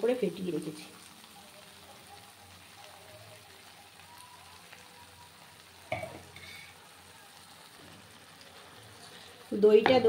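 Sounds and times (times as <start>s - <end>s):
paste sizzling in oil: 0.0s - 10.0s.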